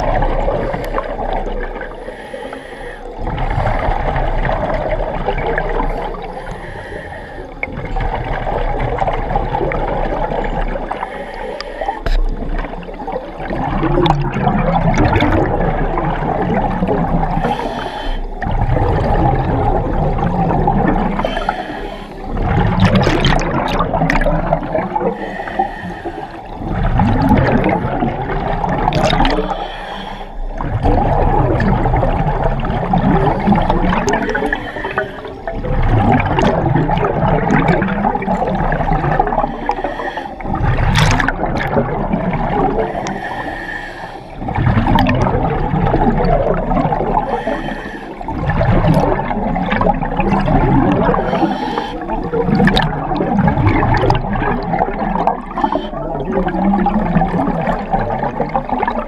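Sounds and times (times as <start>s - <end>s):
underwater bubbling and rushing water: 0.0s - 59.0s.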